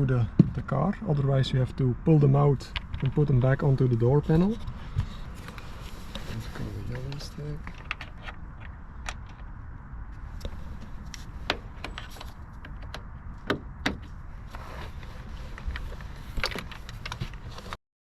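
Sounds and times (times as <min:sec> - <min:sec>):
low steady hum: 0:00.0 - 0:17.8.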